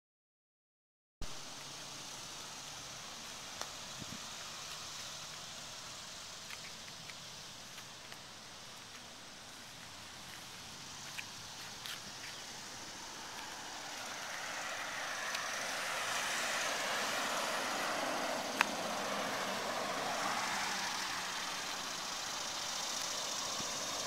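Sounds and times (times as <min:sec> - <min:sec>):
vehicle engine and tyre noise: 0:01.2 - 0:24.0.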